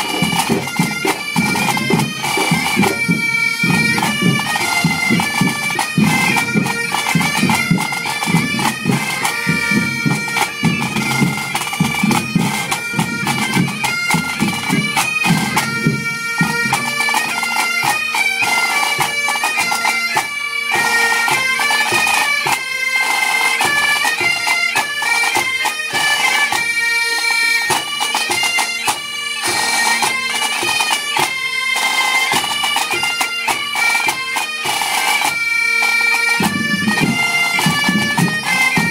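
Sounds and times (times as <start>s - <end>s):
bagpipes playing: 0.0s - 38.9s
light percussion: 0.0s - 38.9s.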